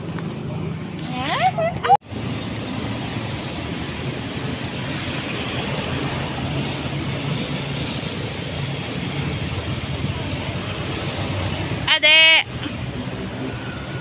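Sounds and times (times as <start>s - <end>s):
motorbikes and cars passing: 0.0s - 14.0s.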